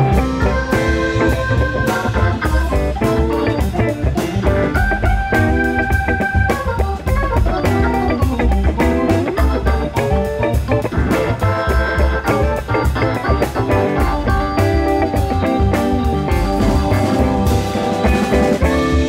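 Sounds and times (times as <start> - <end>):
bass: 0.0 - 19.0
drums: 0.0 - 19.0
electric guitar: 0.0 - 19.0
keyboard: 0.0 - 19.0.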